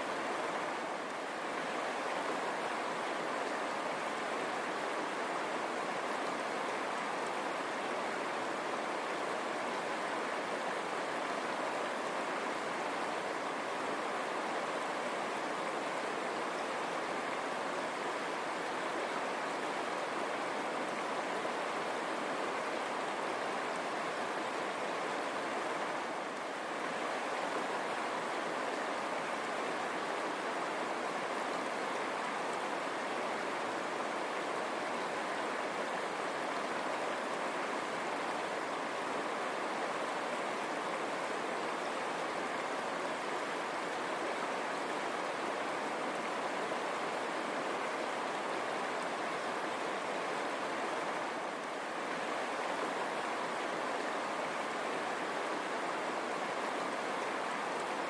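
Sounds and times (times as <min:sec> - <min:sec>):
river water over stones: 0:00.0 - 0:58.0.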